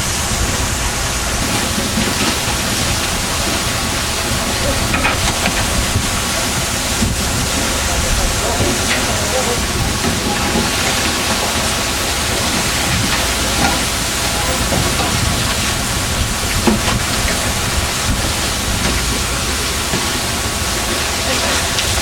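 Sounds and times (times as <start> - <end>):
boat engine and water rush: 0.0 - 22.0.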